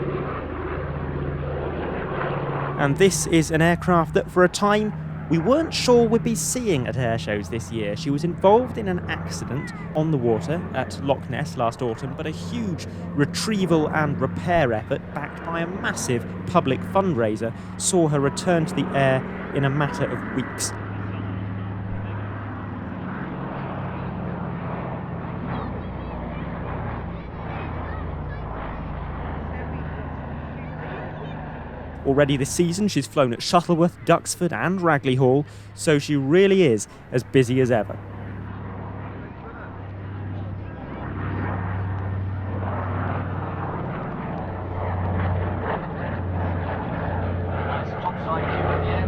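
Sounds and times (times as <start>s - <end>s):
aircraft engines droning: 0.0s - 49.0s.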